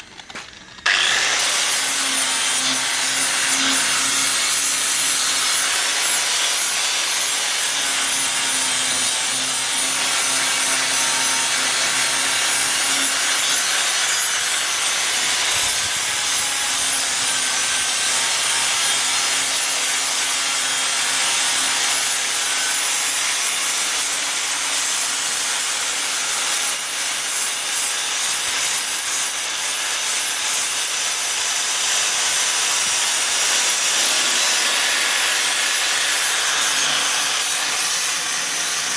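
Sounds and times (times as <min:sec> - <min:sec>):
grinder grinding steel: 0:00.0 - 0:38.9.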